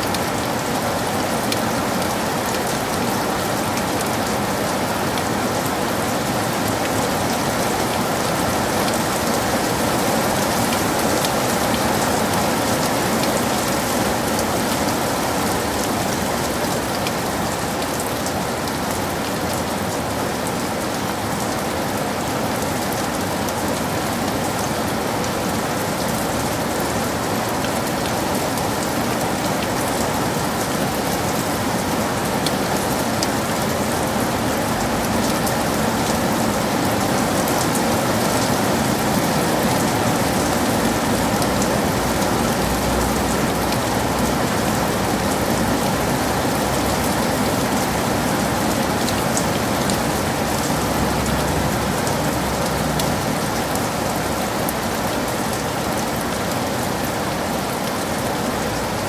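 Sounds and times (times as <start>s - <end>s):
heavy rain in a forest: 0.0s - 59.0s.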